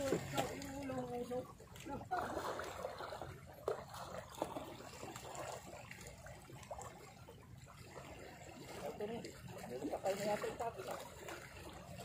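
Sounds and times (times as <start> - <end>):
sea water lapping among rocks: 0.0 - 12.0.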